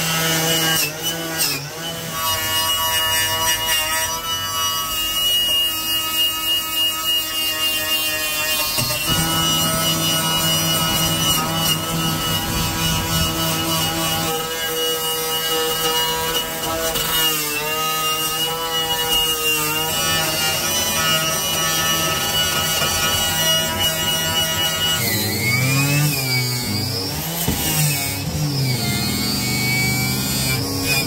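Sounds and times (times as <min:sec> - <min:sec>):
wire wheel grinder scrubbing metal: 0:00.0 - 0:31.0.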